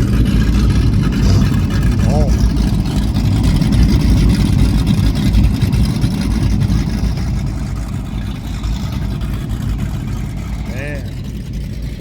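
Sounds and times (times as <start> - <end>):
powerboat engines idling: 0.0 - 12.0.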